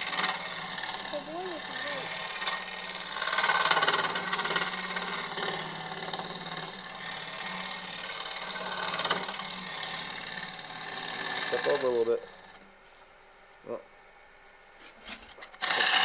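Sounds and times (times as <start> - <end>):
gouge cutting spinning wood: 0.0 - 12.7, 15.6 - 16.0
wood lathe humming: 0.0 - 12.7, 15.6 - 16.0.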